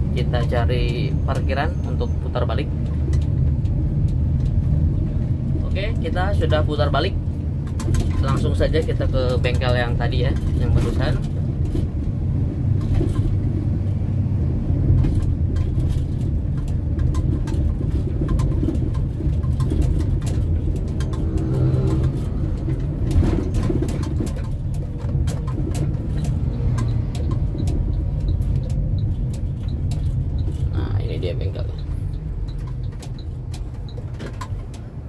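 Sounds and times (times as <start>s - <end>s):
light ticks and rattles: 0.0s - 35.0s
vehicle engine and road rumble: 0.0s - 35.0s.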